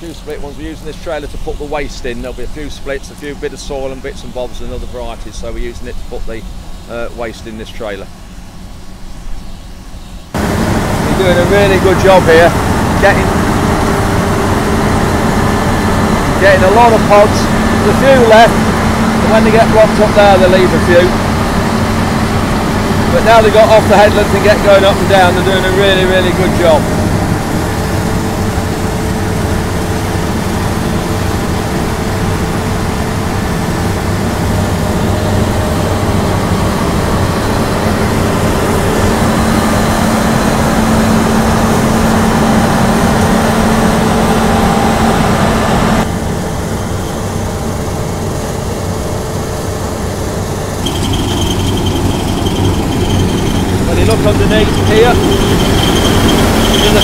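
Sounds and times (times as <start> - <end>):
combine harvester engine and threshing: 0.0 - 57.0.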